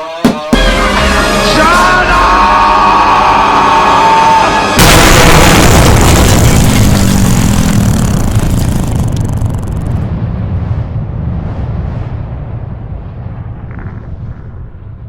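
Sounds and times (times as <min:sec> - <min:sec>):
loud blast rumbling: 0:00.6 - 0:15.0.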